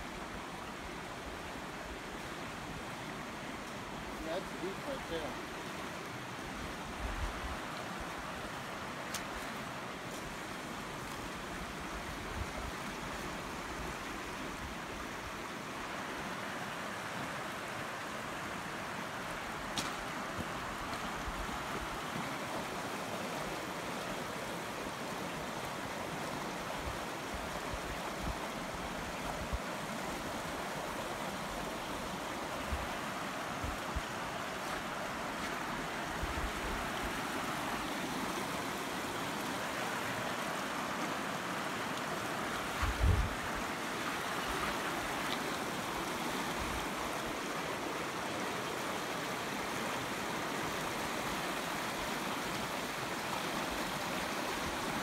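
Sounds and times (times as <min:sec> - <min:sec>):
water rushing over dam: 0:00.0 - 0:55.0.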